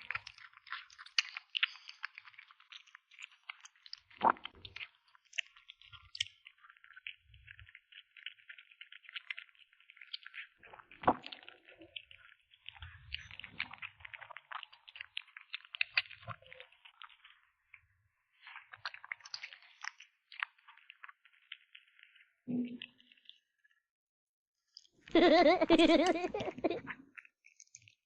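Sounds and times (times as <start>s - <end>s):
kitten chewing meat: 0.0s - 23.4s, 25.1s - 28.0s.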